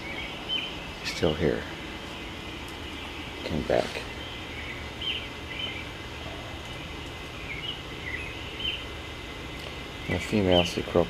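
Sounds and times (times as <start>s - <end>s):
birds chirping: 0.0s - 11.0s
low background noise: 0.0s - 11.0s.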